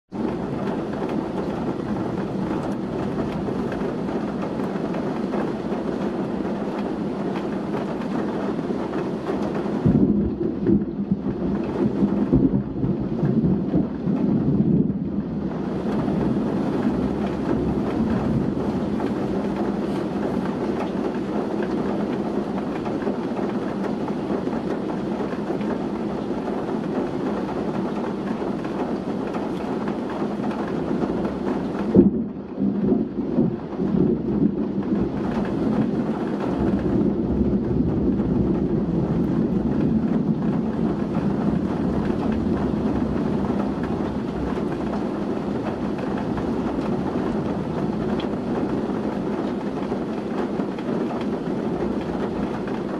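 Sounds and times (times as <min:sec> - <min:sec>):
heavy rain in strong wind: 0:00.1 - 0:52.9
thunder crack and rumbling: 0:00.1 - 0:52.9.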